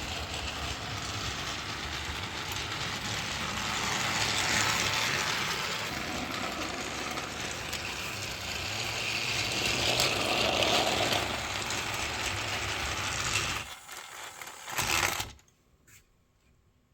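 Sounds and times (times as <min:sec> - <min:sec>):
toy train motor whirring: 0:00.0 - 0:15.4.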